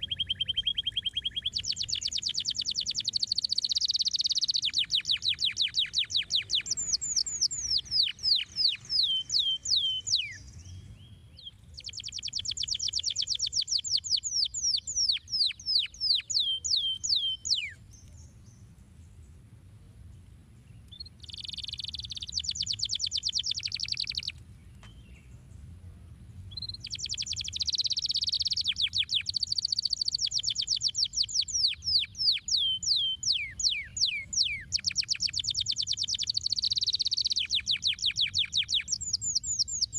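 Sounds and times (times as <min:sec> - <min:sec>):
canary singing trills: 0:00.0 - 0:18.6, 0:20.8 - 0:25.3, 0:26.5 - 0:39.9.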